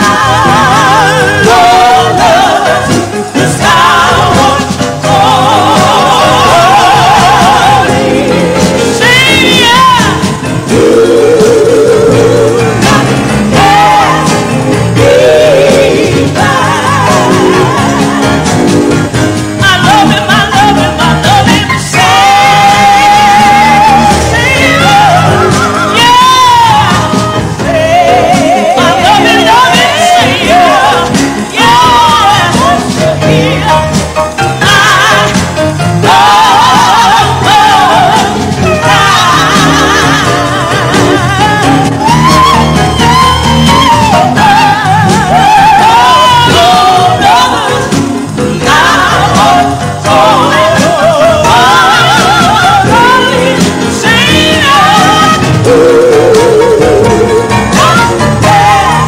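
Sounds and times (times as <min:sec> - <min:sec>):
band backing: 0:00.0 - 0:59.0
women's vocal group singing gospel: 0:00.0 - 0:59.0.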